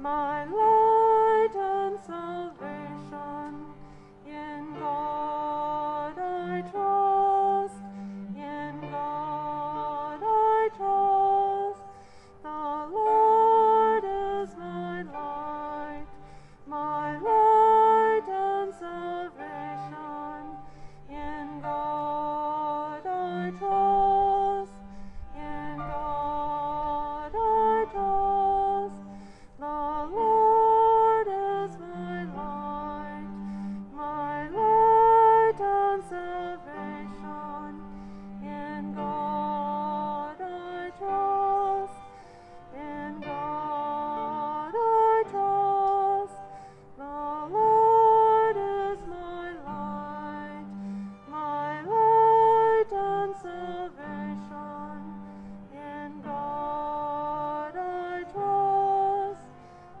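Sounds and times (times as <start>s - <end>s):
cello low notes: 0.0s - 60.0s
piano: 0.0s - 60.0s
violin melody: 0.0s - 60.0s.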